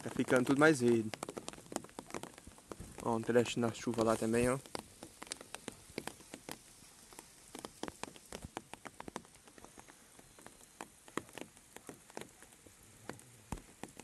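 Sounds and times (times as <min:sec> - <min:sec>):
raindrops ticking: 0:00.0 - 0:14.0.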